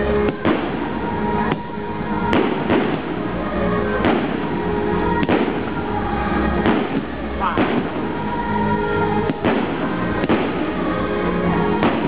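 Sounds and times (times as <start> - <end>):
fireworks bangs: 0.0 - 12.0
fireworks crackling: 0.0 - 12.0
music: 0.0 - 12.0.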